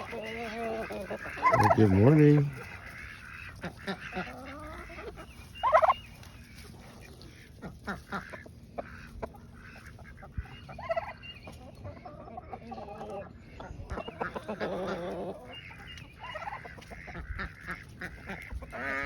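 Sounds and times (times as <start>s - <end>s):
poultry calling: 0.0s - 19.0s.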